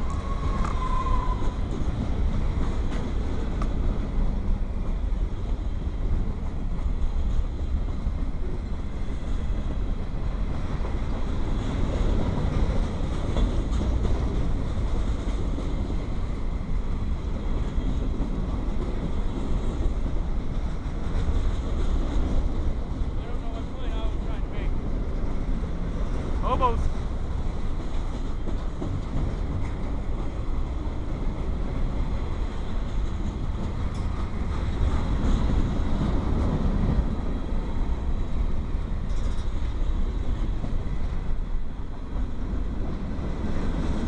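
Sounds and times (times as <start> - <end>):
freight train rumbling past: 0.0 - 44.0
wheels clattering on rail joints: 0.0 - 44.0.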